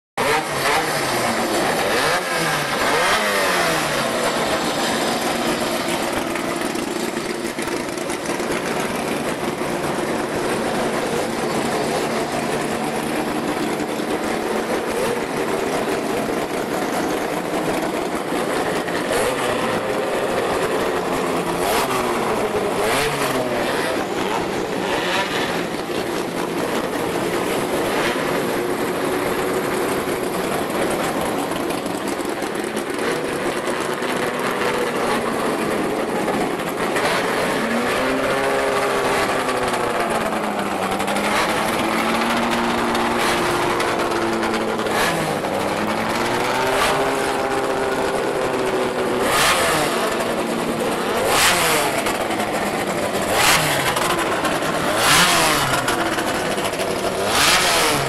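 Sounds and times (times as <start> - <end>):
racing car engines revving: 0.2 - 58.0.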